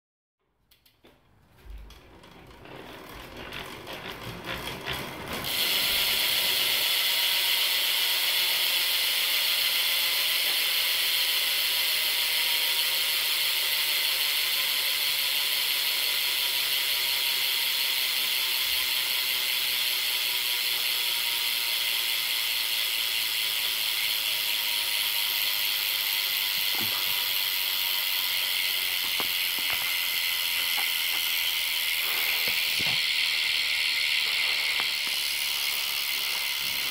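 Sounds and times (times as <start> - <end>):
bicycle hub ratcheting: 0.7 - 36.9.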